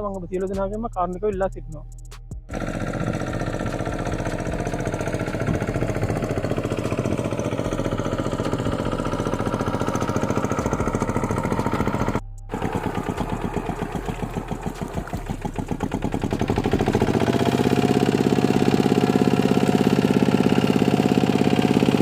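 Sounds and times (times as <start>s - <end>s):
tractor engine chugging: 2.5s - 22.0s.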